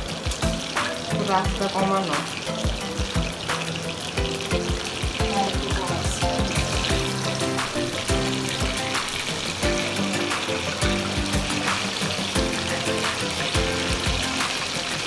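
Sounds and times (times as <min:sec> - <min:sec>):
background music with steady beat: 0:00.0 - 0:15.0
chicken frying in oil: 0:00.0 - 0:15.0.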